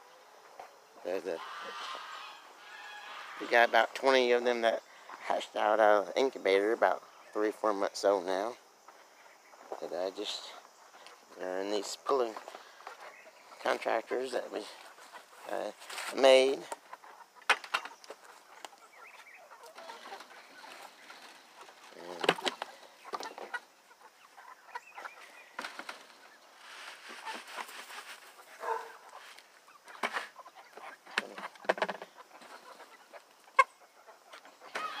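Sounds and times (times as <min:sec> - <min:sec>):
young chickens clucking: 0:00.0 - 0:35.0.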